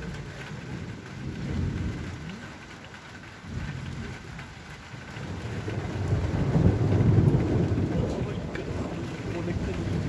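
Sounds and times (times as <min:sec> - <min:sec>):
thunder rumbling: 0:00.0 - 0:02.6, 0:03.4 - 0:10.0
steady rain: 0:00.0 - 0:10.0.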